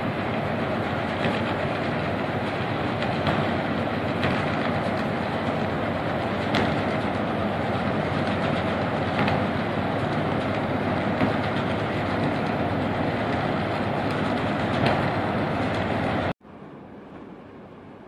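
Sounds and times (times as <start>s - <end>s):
ship engine rumble and wash: 0.0s - 18.0s.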